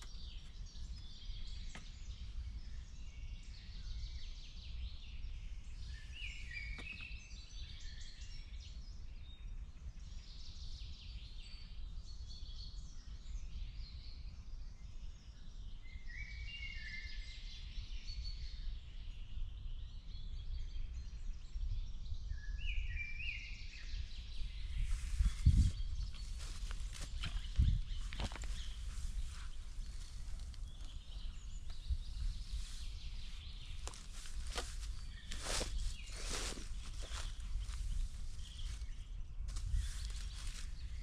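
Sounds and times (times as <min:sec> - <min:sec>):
songbirds singing and chirping: 0:00.0 - 0:41.0.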